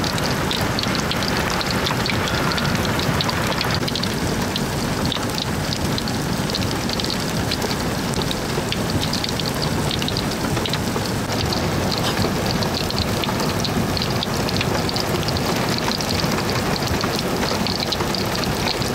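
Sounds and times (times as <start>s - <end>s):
hail and rain pelting down: 0.0s - 18.9s
hailstones ticking on hard surface: 0.0s - 18.9s.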